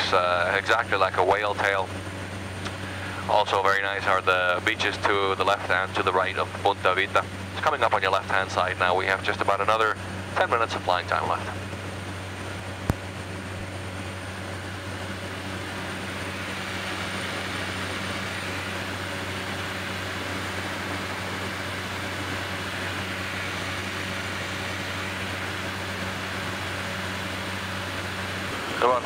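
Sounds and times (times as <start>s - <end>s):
propeller plane engine hum: 0.0s - 29.0s.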